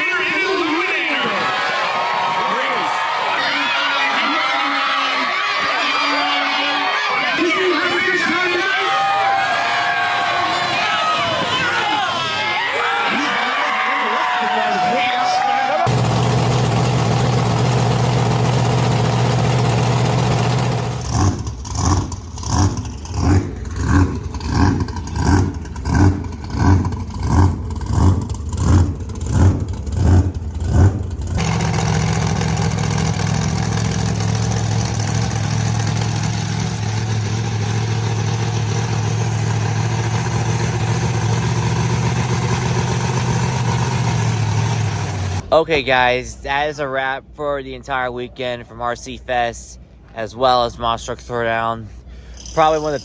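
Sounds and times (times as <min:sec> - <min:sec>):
monster truck engine revving: 0:00.0 - 0:45.5.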